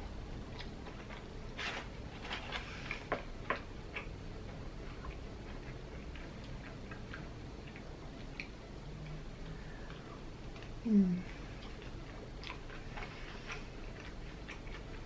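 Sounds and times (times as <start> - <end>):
chewing crispy food: 0.3 - 15.0.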